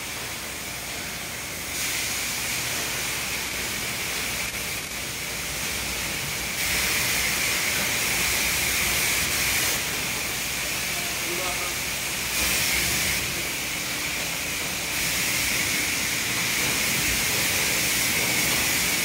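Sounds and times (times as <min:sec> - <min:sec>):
high-pressure water spray hiss: 0:00.0 - 0:19.0.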